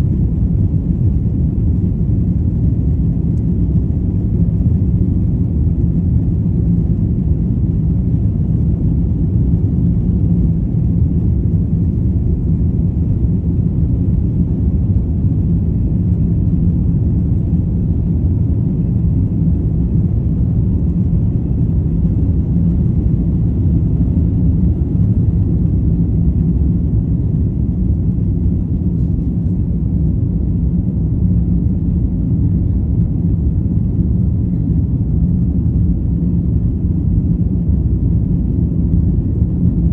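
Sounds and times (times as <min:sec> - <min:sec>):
aircraft engines rumbling: 0:00.0 - 0:39.9
faint steady hum: 0:00.0 - 0:39.9.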